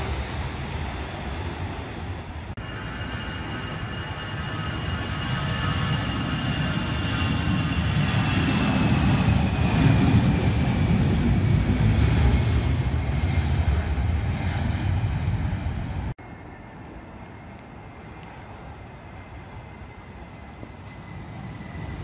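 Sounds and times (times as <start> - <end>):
jet engines deep rumble: 0.0 - 22.0.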